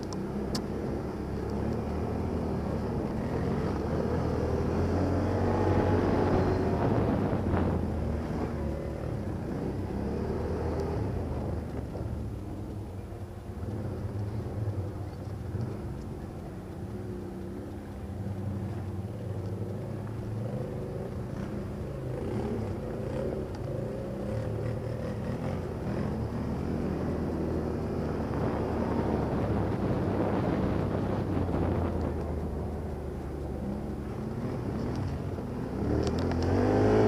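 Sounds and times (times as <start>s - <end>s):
quad bike engine running: 0.0s - 37.0s.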